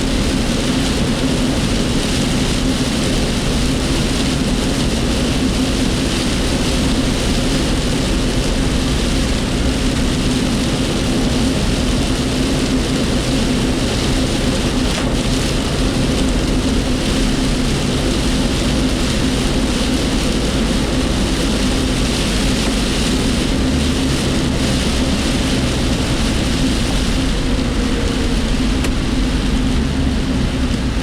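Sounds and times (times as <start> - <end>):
vehicle cabin engine and road drone: 0.0 - 31.0.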